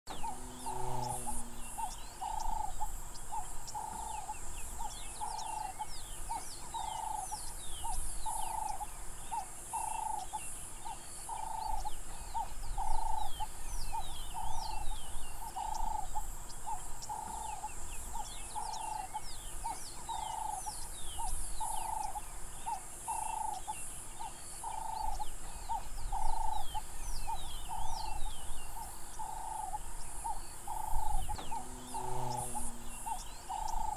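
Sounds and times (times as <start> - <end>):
high-pitched insect hiss: 0.1 - 33.9.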